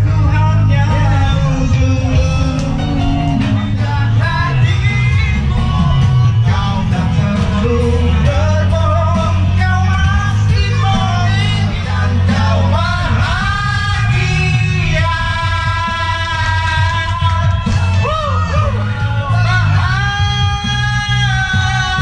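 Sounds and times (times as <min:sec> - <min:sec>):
amplified music with heavy bass: 0:00.0 - 0:22.0
men singing into microphones: 0:00.0 - 0:22.0.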